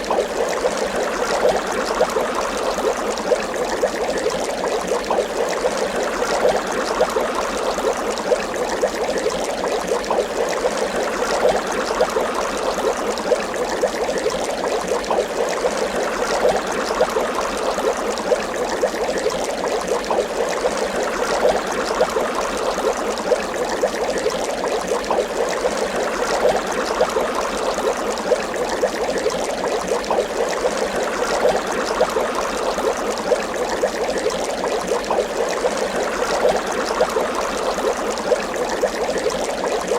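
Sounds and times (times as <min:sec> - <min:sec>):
water bubbling and gurgling: 0:00.0 - 0:39.9.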